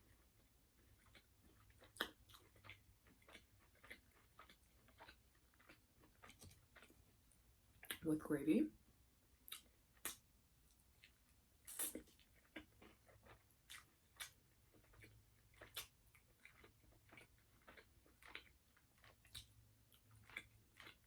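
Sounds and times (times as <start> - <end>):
chewing fried chicken: 0.0 - 8.0, 9.4 - 21.0
soft crunches and mouth clicks: 0.8 - 7.2, 9.4 - 21.0.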